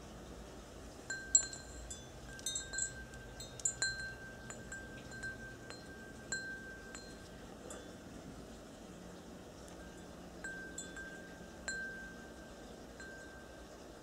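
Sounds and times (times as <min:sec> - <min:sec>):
small chimes tinkling: 0:01.1 - 0:08.2, 0:09.6 - 0:14.0.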